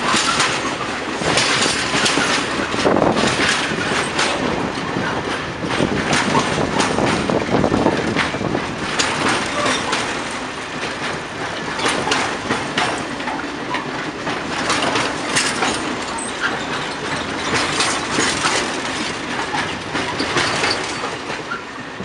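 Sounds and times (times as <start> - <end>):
train wheels clacking over rail joints: 0.0 - 22.0.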